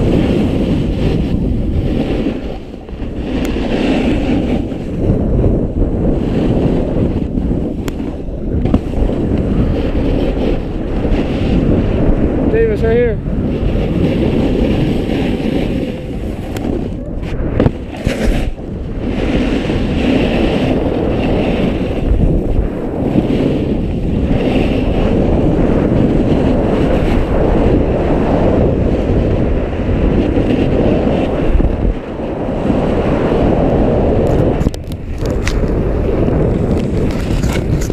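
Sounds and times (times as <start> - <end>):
snowboard scraping over snow: 0.0 - 37.9
wind on microphone: 0.0 - 37.9.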